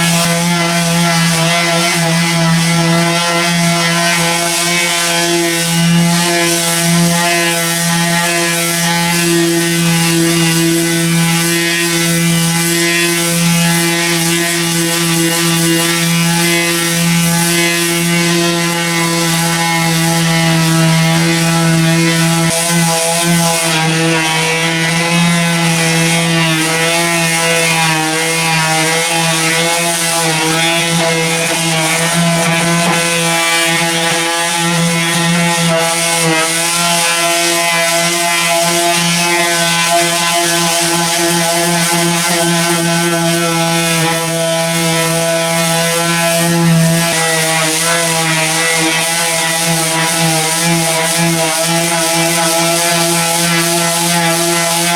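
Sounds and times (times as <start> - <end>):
power sander on paint: 0.0 - 54.9.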